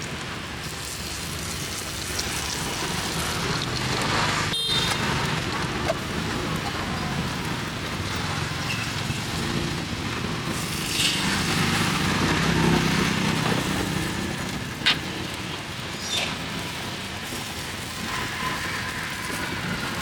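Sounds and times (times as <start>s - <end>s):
street traffic: 0.0s - 20.0s
motorbike engine passing: 1.3s - 20.0s.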